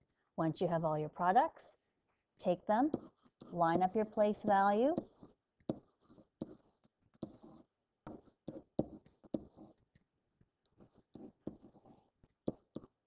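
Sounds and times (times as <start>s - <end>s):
stylus tapping and scratching screen: 2.4s - 13.0s.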